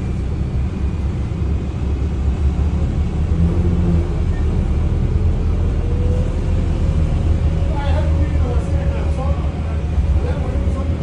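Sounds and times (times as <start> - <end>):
bus rumbling inside cabin: 0.0 - 11.0
faint bus whine: 0.0 - 11.0.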